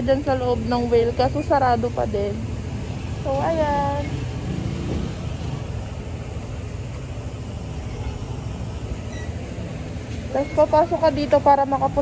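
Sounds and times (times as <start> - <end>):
low rumbling outdoor background noise: 0.0 - 12.0.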